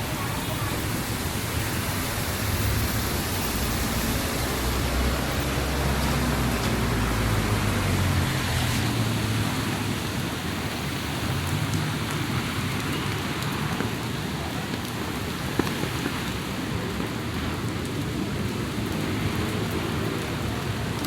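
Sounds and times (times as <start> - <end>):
heavy rain falling: 0.0 - 21.0
rain drop ticks: 0.1 - 9.4, 10.2 - 21.0.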